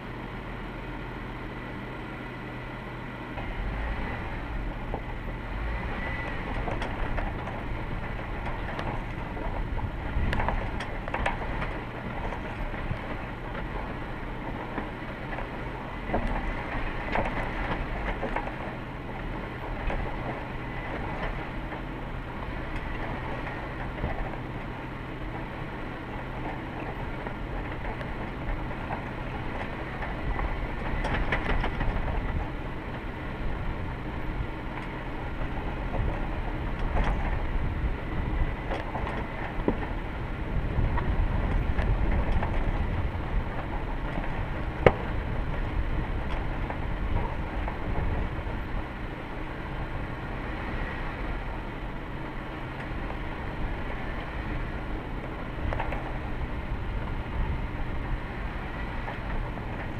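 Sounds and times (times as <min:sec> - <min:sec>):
vehicle running noise: 0:00.0 - 0:59.9.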